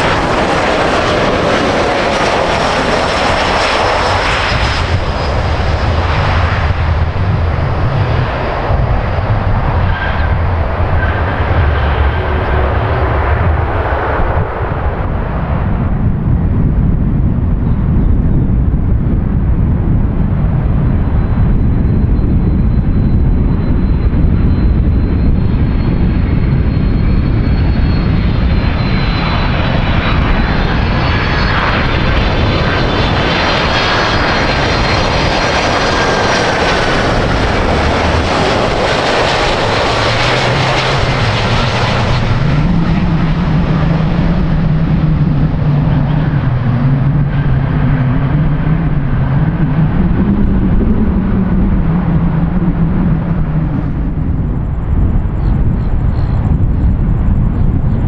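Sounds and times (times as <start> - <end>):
jet airliner passing: 0.0 - 58.0.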